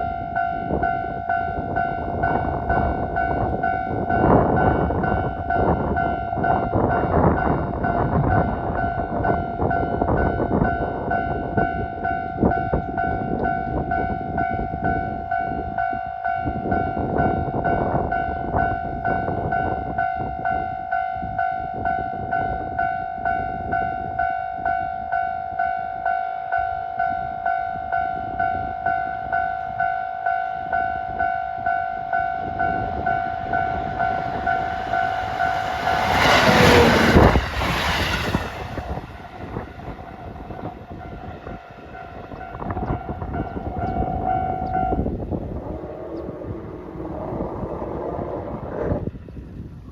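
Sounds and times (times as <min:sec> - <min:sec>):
rush of passing train: 0:00.0 - 0:49.9
train running on rails: 0:00.0 - 0:49.9.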